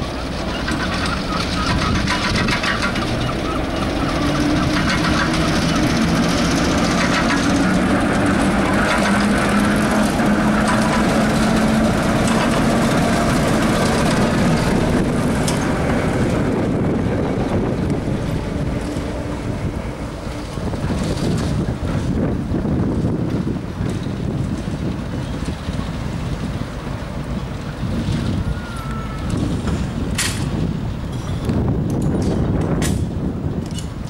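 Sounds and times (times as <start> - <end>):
diesel locomotive engine droning: 0.0 - 34.0.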